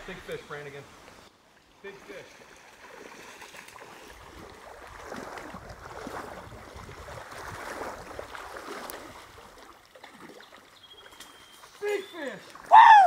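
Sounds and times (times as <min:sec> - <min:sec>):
flowing stream: 0:00.0 - 0:13.0
legs sloshing through water: 0:01.4 - 0:12.8.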